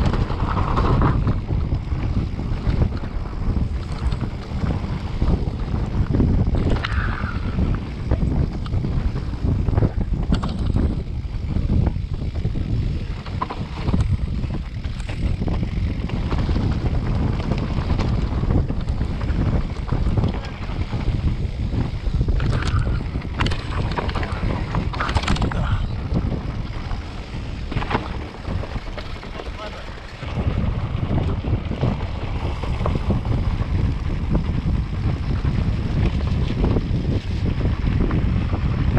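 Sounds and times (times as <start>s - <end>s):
bike frame and chain rattling: 0.0s - 38.9s
bike tyres rumbling over stones: 0.0s - 38.9s
wind buffeting microphone: 0.0s - 38.9s.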